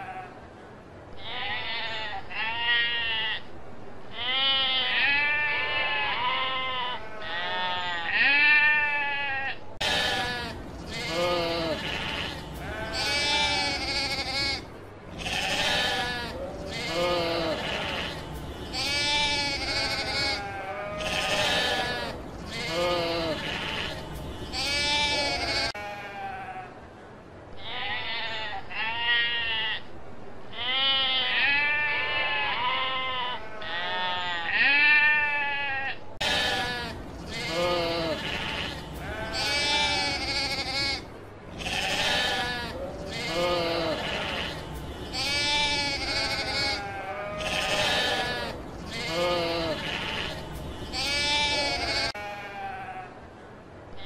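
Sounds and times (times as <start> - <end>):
sheep bleating: 4.1 - 26.7, 30.6 - 53.2.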